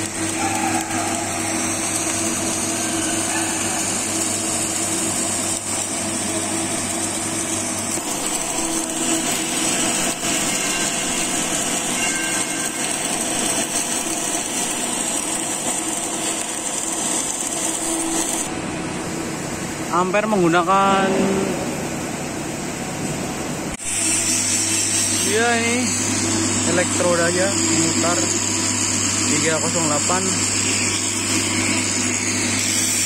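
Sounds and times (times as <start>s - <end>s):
welding arc hissing: 0.0s - 18.5s, 23.8s - 33.0s.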